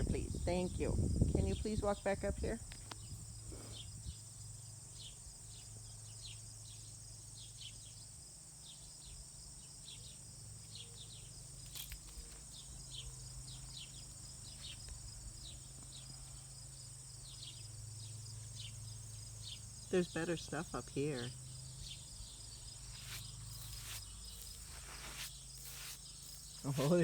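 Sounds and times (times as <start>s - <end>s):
insect buzz: 0.0s - 27.0s.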